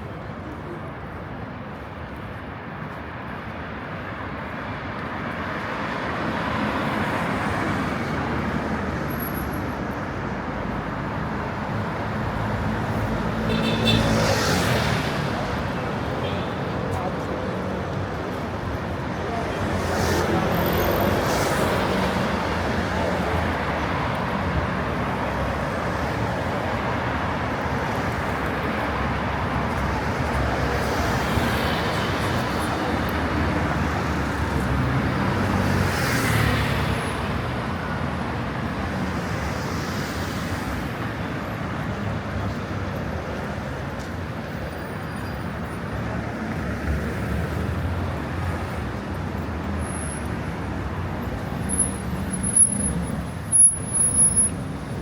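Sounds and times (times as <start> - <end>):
city traffic hum: 0.0 - 55.0.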